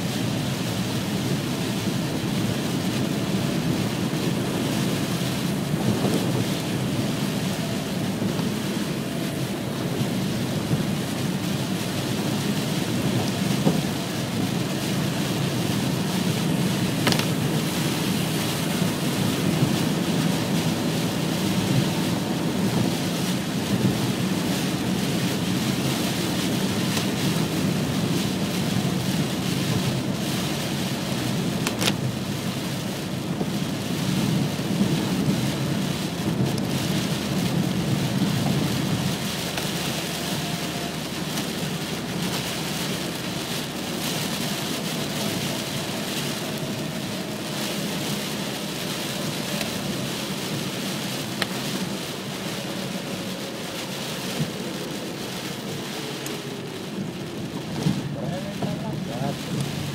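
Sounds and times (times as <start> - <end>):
heavy rain on a car: 0.0 - 59.9
tyres on a wet road: 0.0 - 59.9.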